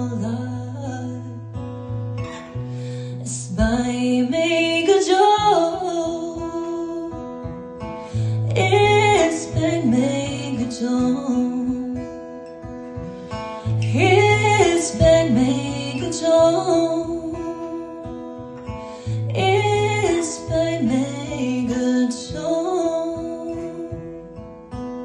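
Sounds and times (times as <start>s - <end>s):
woman singing a ballad: 0.0s - 24.8s
acoustic guitar: 0.0s - 25.0s.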